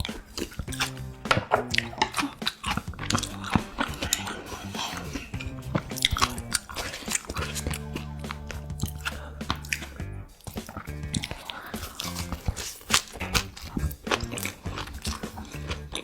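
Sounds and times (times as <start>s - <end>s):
background music: 0.0s - 16.0s
person chewing and biting food: 0.0s - 16.0s.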